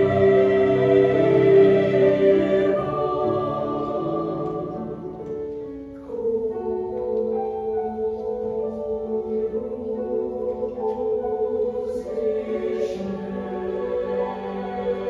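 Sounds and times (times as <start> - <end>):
choir singing chords: 0.0 - 15.0.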